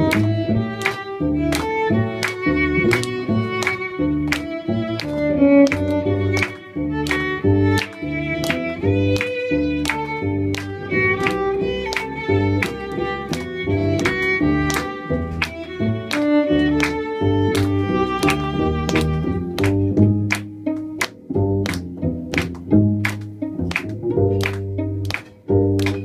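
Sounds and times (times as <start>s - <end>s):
hand claps: 0.0s - 26.0s
plucked double bass: 0.0s - 26.0s
violin playing upbeat melody: 0.0s - 26.0s.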